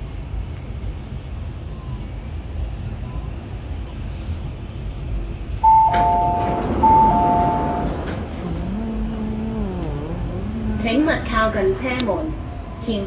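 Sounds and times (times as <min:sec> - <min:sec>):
train cabin running noise: 0:00.0 - 0:11.2.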